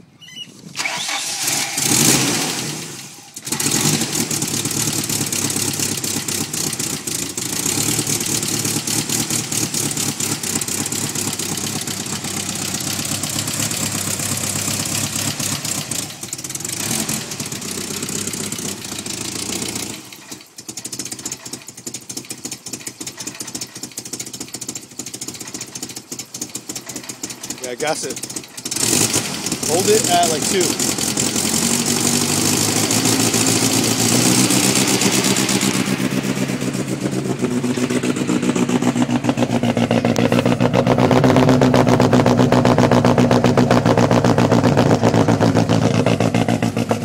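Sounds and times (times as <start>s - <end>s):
car engine starting and idling: 0.0s - 47.0s.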